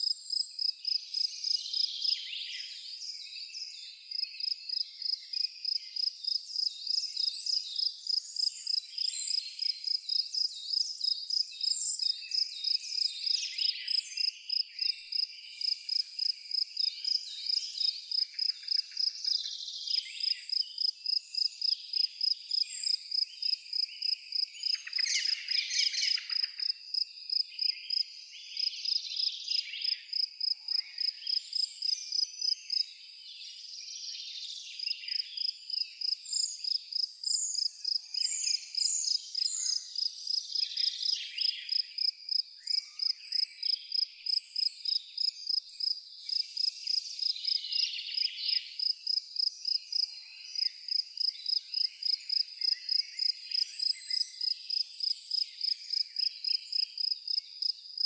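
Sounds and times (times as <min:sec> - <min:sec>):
cricket chirping: 0:00.0 - 0:02.2, 0:04.1 - 0:33.2, 0:34.8 - 0:58.0.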